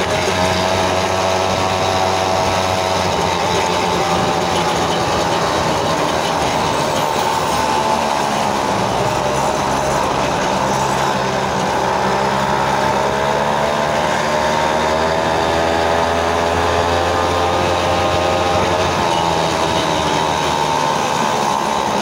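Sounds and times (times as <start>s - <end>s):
road and wind noise: 0.0s - 22.0s
small engine running: 0.0s - 22.0s.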